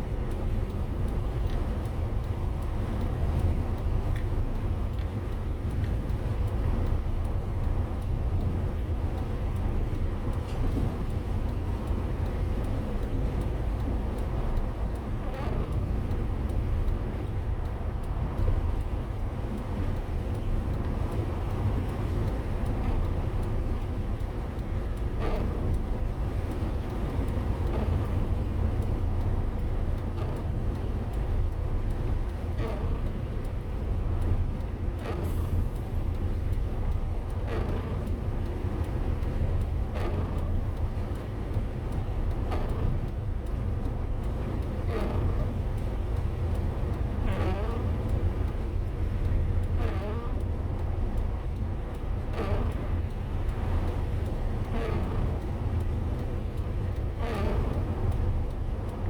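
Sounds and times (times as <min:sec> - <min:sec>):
vehicle engine and tyres rumbling: 0:00.0 - 0:59.0.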